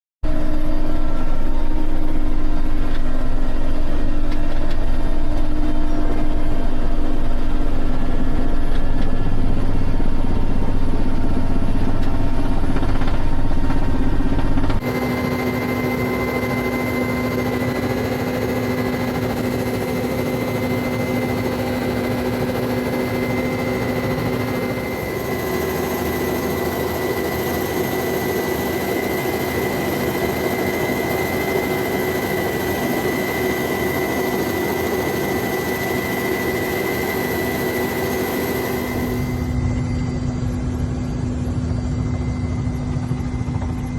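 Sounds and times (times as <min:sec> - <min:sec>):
high engine whine: 0:00.2 - 0:43.9
aircraft engines droning: 0:00.3 - 0:43.9.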